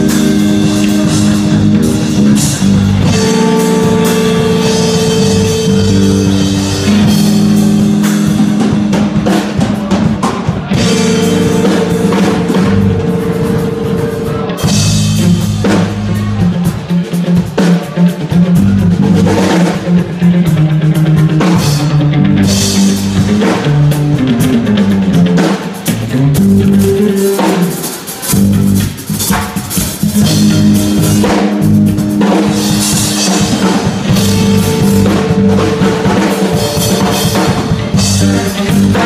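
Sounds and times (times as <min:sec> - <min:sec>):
bass guitar: 0:00.0 - 0:39.0
drum kit playing: 0:00.0 - 0:39.0
electric guitar: 0:00.0 - 0:39.0.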